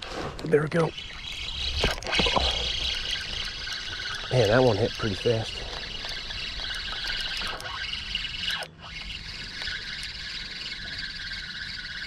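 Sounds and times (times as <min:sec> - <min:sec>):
spinning reel gears whirring: 0:00.7 - 0:12.0.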